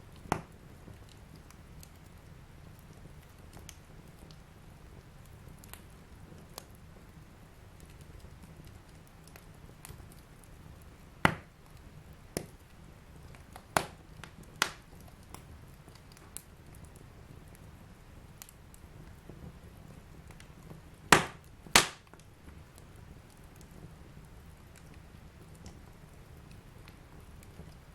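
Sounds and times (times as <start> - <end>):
fire crackling pops: 0.0 - 27.9
wood fire rumbling: 0.0 - 27.9.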